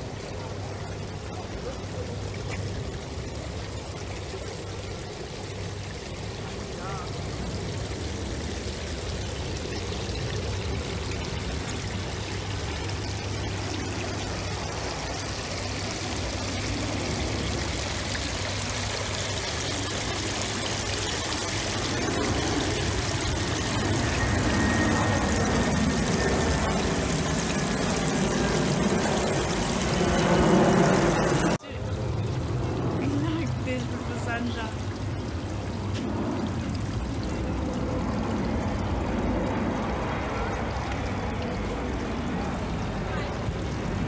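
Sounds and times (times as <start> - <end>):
water trickling over stone steps: 0.0 - 44.0.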